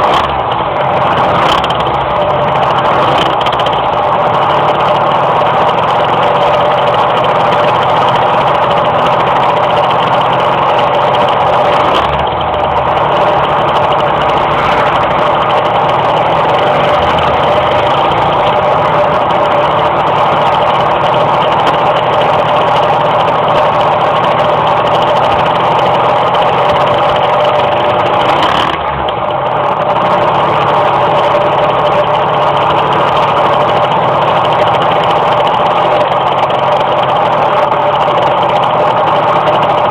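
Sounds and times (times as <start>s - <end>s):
moped engine running: 0.0s - 39.9s.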